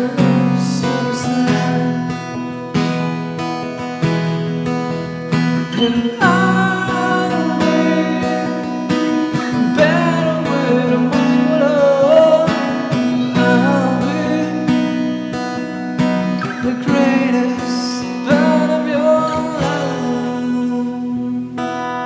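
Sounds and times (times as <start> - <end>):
guitar strumming chords: 0.0 - 22.0
wordless vocal melody: 0.0 - 22.0.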